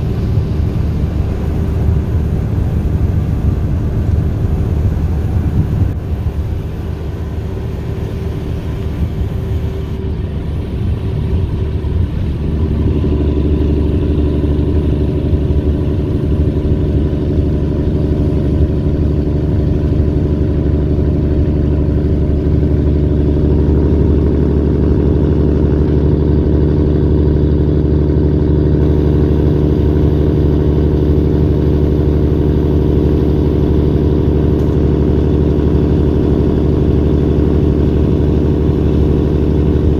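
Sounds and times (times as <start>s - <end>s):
truck diesel engine: 0.0s - 39.9s.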